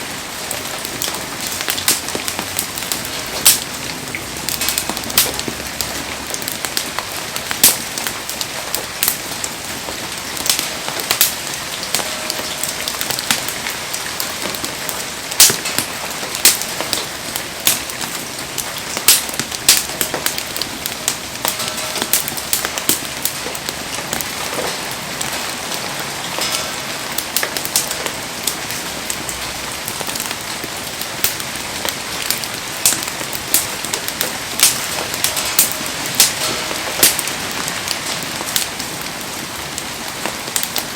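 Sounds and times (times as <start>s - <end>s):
campfire crackling: 0.0s - 40.9s
heavy rain falling: 0.0s - 40.9s.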